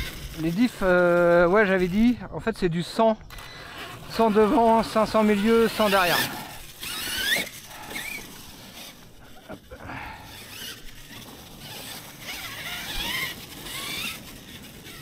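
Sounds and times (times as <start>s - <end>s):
electric motor whining: 0.0s - 2.2s, 3.2s - 15.0s
gear and drivetrain noise: 0.0s - 15.0s.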